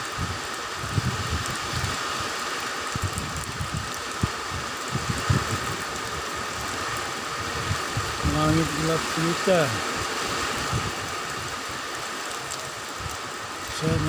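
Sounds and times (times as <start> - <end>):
heavy rain falling: 0.0 - 14.0
wind buffeting microphone: 0.0 - 14.0.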